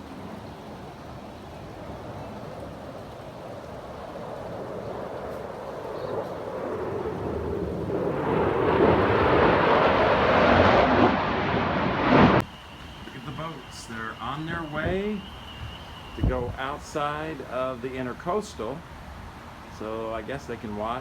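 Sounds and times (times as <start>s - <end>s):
jet aircraft roaring past: 1.7s - 19.0s.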